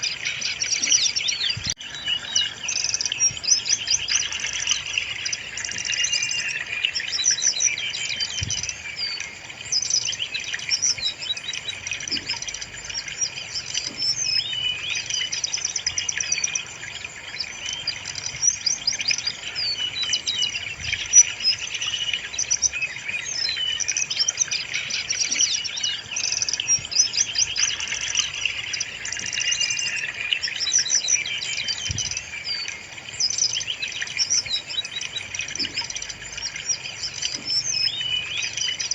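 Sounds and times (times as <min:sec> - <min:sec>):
bird singing with chattering whistles: 0:00.0 - 0:38.9.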